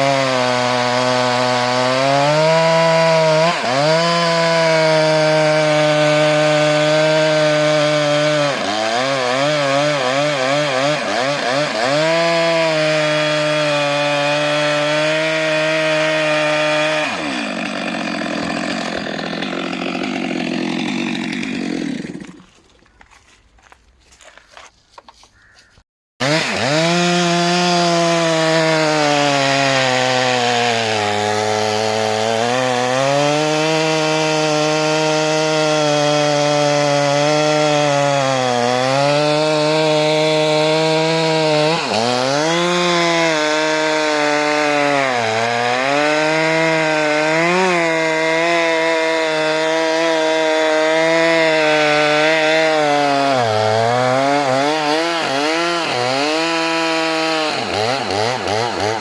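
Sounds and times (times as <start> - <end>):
chainsaw cutting log: 0.0 - 22.9, 26.2 - 59.0.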